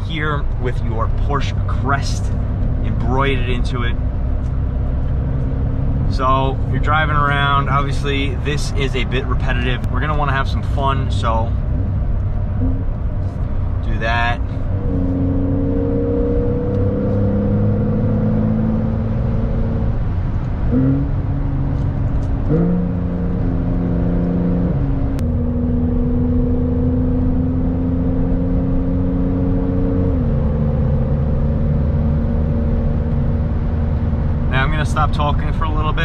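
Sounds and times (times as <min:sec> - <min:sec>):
car engine running loud: 0:00.0 - 0:36.0.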